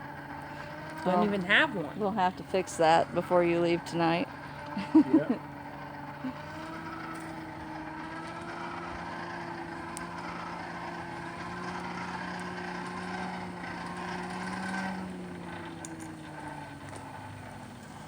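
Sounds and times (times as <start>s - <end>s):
forge blower motor hum: 0.0s - 18.0s.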